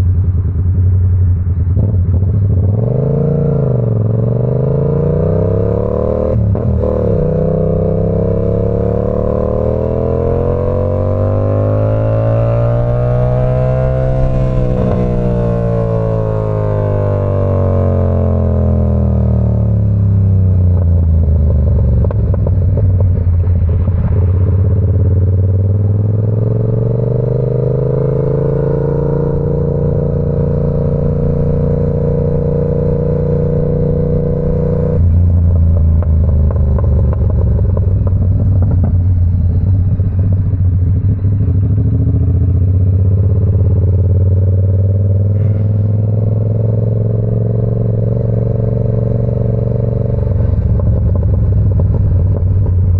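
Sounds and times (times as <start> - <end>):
motorcycle engine revving: 1.4 - 52.9.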